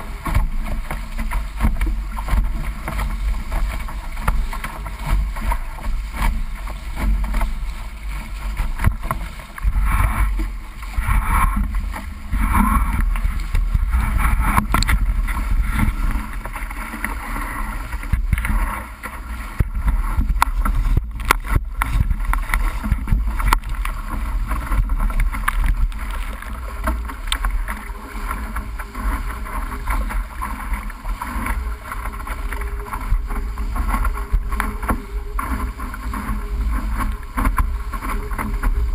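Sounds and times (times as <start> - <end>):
water rushing along hull: 0.0 - 38.9
wind buffeting microphone: 0.0 - 38.9.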